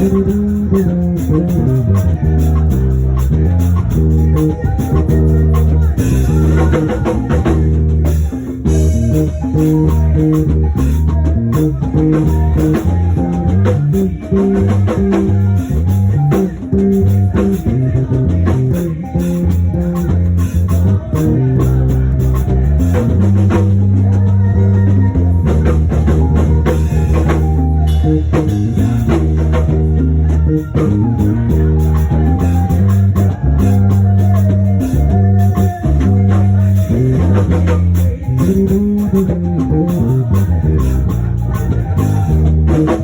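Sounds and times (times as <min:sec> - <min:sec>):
band music: 0:00.0 - 0:43.0
bass guitar line: 0:00.0 - 0:43.0.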